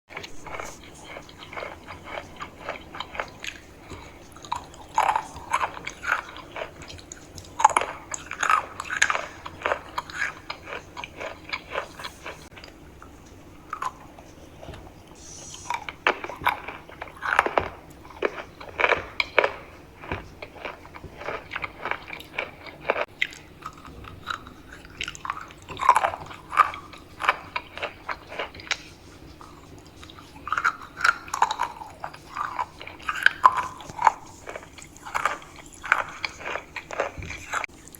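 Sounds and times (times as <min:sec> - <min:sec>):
crunchy chewing: 0:00.1 - 0:37.9.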